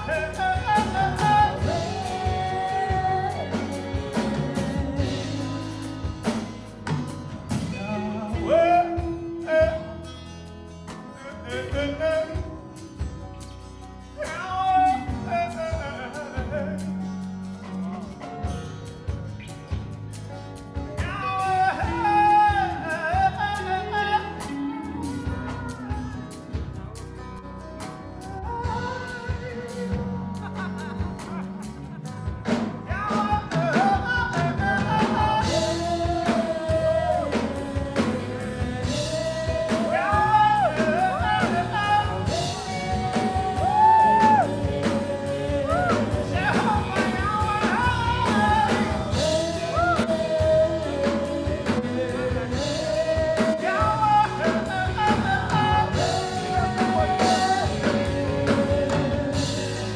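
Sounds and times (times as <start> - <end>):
person singing: 0.0 - 10.2, 11.0 - 13.1, 14.2 - 18.4, 21.0 - 27.0, 28.1 - 59.9
live band playing: 0.0 - 59.9.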